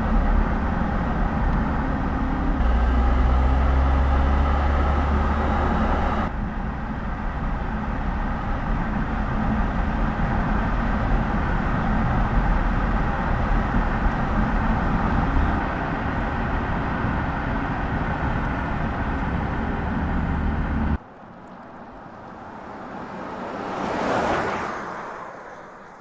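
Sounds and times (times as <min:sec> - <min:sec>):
car passing by: 0:00.0 - 0:06.3, 0:09.0 - 0:26.0
car tyre and wind rumble: 0:00.0 - 0:26.0.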